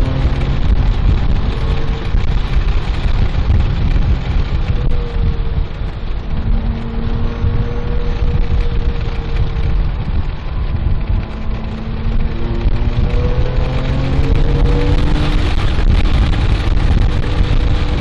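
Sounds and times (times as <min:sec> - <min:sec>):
road and wind noise rumble: 0:00.0 - 0:18.0.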